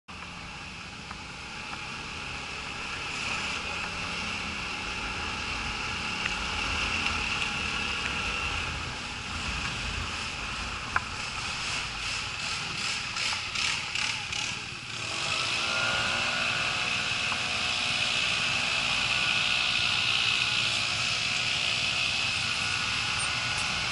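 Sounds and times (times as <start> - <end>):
motorcycle engine running: 0.1 - 23.9.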